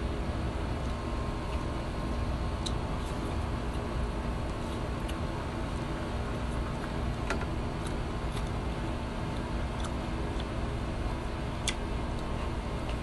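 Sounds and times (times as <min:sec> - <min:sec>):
low rumble and hum: 0:00.0 - 0:13.0
person eating with hands: 0:00.8 - 0:10.8, 0:11.5 - 0:13.0.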